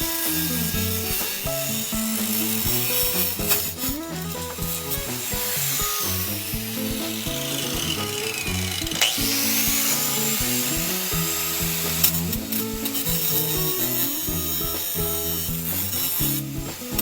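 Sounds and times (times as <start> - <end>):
bass and synth music: 0.0 - 17.0.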